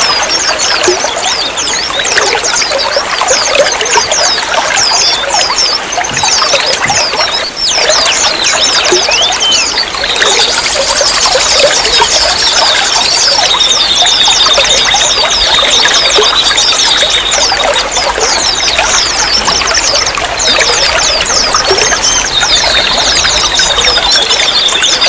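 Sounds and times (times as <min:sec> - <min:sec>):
water trickling and splashing: 0:00.0 - 0:25.0.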